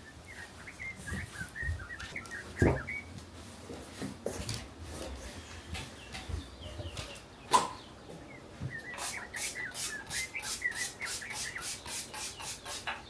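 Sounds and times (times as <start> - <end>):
bird chirping: 0.0 - 3.2, 5.1 - 13.0.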